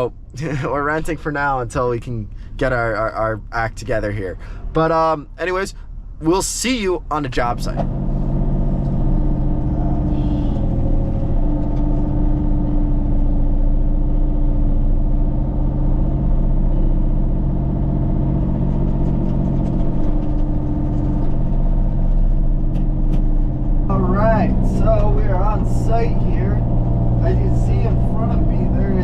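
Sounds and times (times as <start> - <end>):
vehicle engine droning: 0.0 - 29.0.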